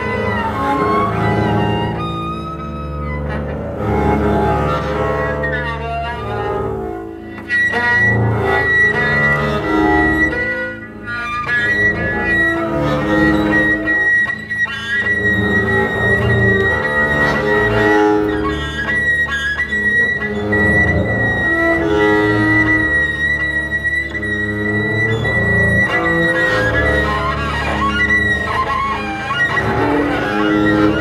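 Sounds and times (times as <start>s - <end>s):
bowed double basses: 0.0s - 31.0s.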